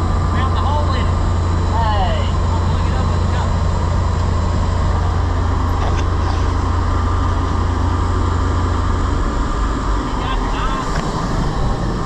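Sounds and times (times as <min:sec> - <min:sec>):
combine engine drone: 0:00.0 - 0:12.0
threshing machinery hum: 0:00.0 - 0:12.0.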